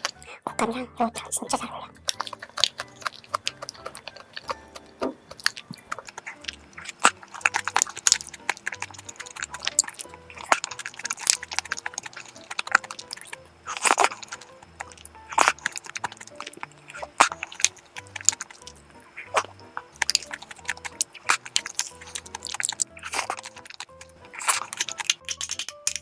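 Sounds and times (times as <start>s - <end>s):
wet chewing clicks and smacks: 0.0s - 0.6s, 1.2s - 26.0s.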